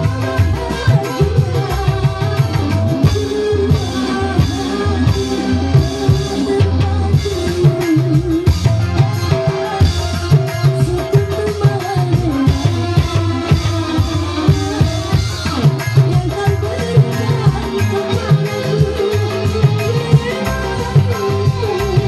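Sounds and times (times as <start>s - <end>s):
bending melody line: 0.0s - 22.0s
drum beat: 0.0s - 22.0s
electric guitar: 0.0s - 22.0s.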